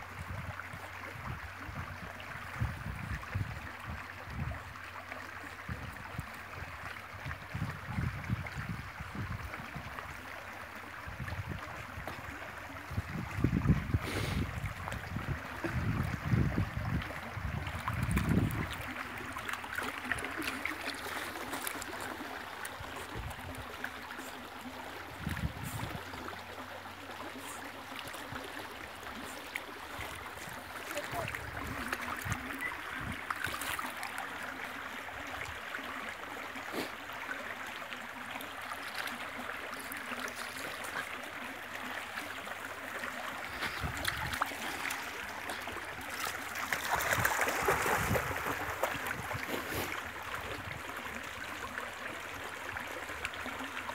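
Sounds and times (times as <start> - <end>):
stream babbling over stones: 0.0 - 53.9.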